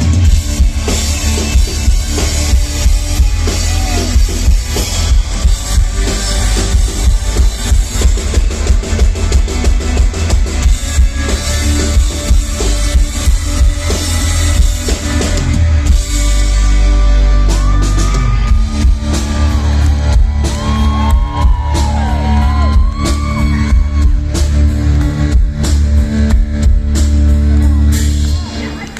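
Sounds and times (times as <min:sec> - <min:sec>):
drum kit: 0:00.0 - 0:28.9
electric guitar: 0:00.0 - 0:28.9
heavy bass: 0:00.0 - 0:28.9.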